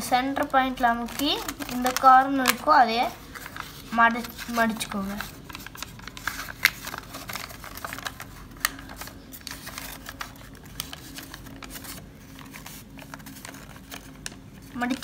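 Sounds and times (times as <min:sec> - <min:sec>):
paper crinkling and creasing: 0:00.0 - 0:15.0.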